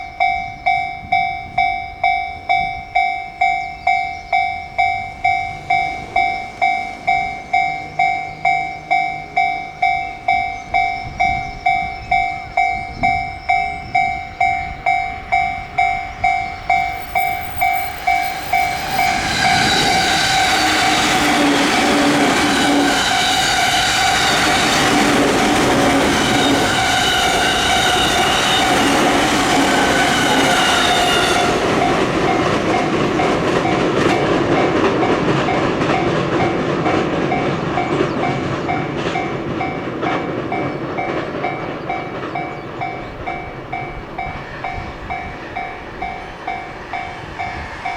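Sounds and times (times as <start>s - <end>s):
electric train passing: 0.0s - 47.9s
level-crossing warning bell ringing: 0.0s - 47.9s
train wheels clacking over rails: 0.0s - 47.9s.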